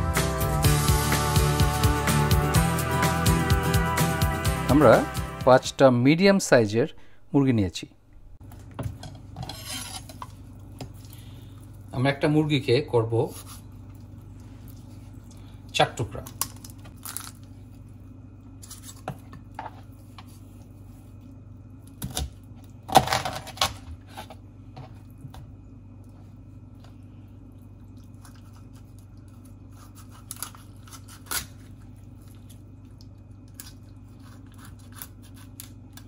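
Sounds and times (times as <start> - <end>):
steady low hum: 4.4 - 36.0.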